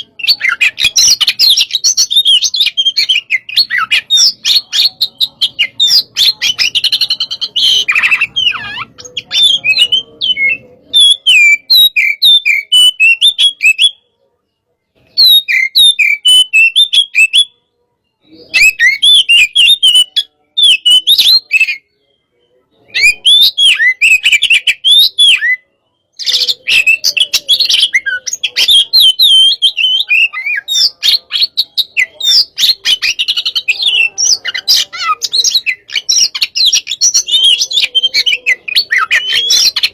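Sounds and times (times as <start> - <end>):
bird singing whistles and chirps: 0.0 - 14.1, 15.1 - 39.9.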